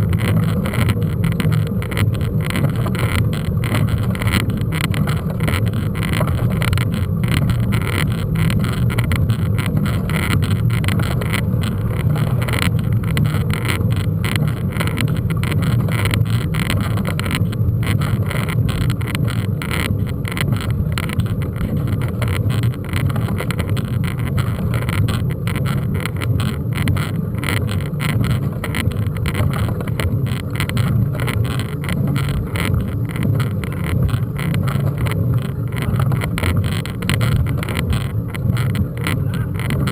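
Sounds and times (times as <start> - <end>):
bike rattling and clicking: 0.0 - 39.9
bike rolling noise: 0.0 - 39.9.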